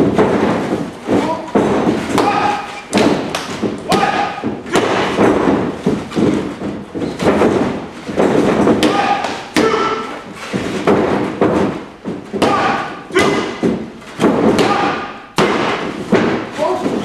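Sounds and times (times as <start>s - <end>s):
bodies thudding on a ring mat: 0.0s - 17.0s.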